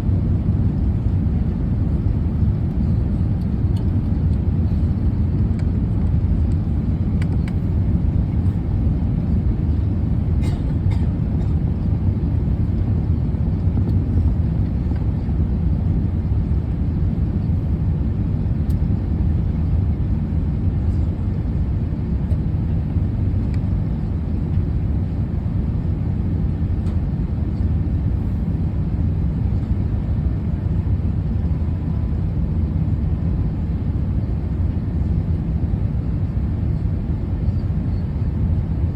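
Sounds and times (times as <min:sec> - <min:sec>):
vehicle rumble from inside: 0:00.0 - 0:38.9.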